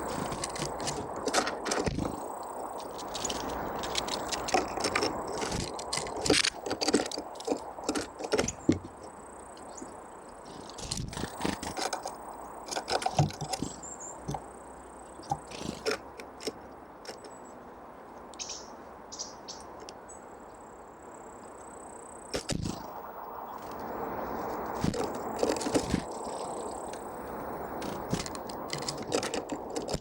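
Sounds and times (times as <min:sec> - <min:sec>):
birds pecking seeds: 0:00.0 - 0:17.6, 0:21.2 - 0:30.0.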